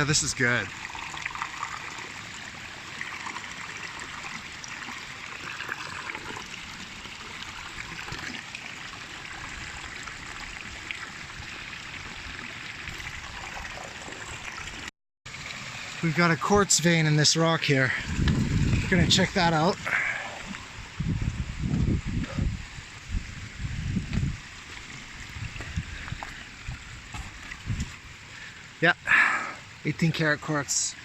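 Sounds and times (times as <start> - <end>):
river water flowing: 0.0 - 21.5, 24.3 - 31.0.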